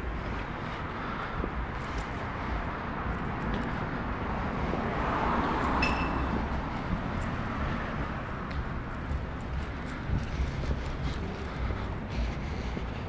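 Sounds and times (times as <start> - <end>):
car passing: 0.1 - 13.0.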